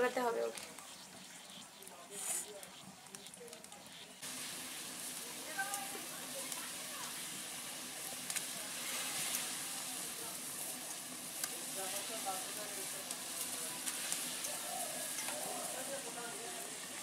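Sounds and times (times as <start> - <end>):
curry boiling and bubbling: 0.0 - 17.0.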